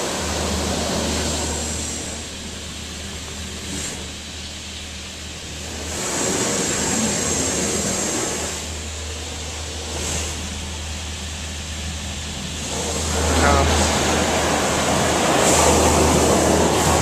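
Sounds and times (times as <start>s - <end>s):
high-pressure water jets spraying car: 0.0s - 17.0s
steady low hum: 0.0s - 17.0s.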